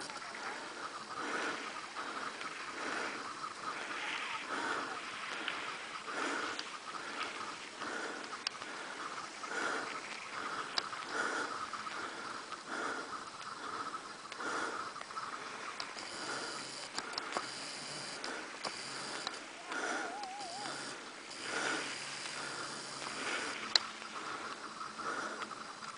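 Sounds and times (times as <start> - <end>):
faint ticks: 0.0 - 25.9
person breathing hard: 0.0 - 25.9.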